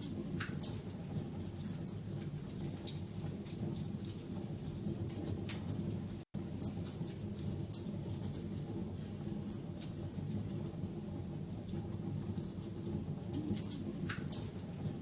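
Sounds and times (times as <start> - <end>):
low rumble of burning: 0.0 - 15.0
wood fire crackling and popping: 0.0 - 15.0.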